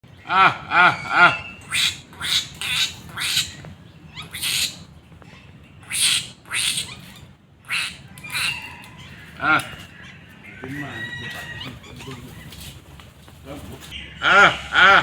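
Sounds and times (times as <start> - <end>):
birds calling: 0.0 - 15.0
harsh squawking bird calls: 0.1 - 15.0.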